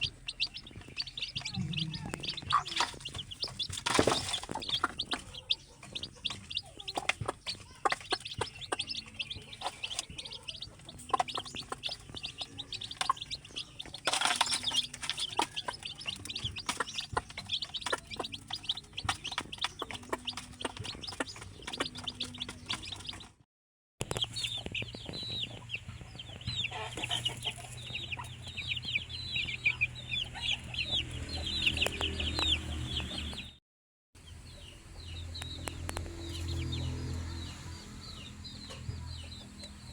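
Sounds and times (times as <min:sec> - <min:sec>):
chickens clucking: 0:00.0 - 0:23.4, 0:24.0 - 0:33.5.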